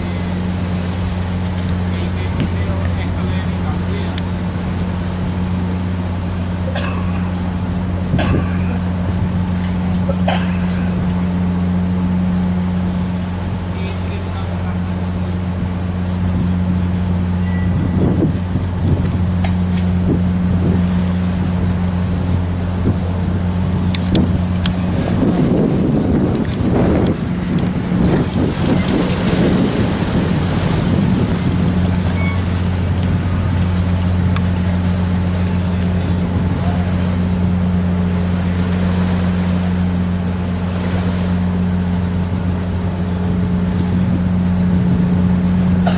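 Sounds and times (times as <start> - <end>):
ferry diesel engines droning: 0.0 - 45.9.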